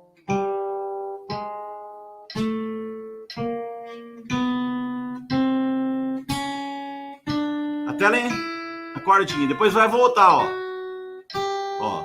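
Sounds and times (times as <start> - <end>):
acoustic guitar single notes: 0.0 - 12.0
metronome ticking: 0.2 - 12.0.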